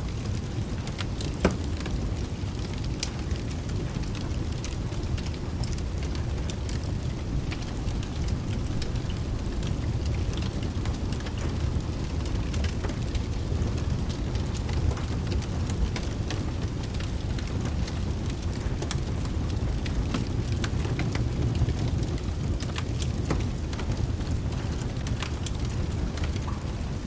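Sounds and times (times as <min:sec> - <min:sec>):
steady rain: 0:00.0 - 0:27.0
wood fire crackling: 0:00.0 - 0:27.0.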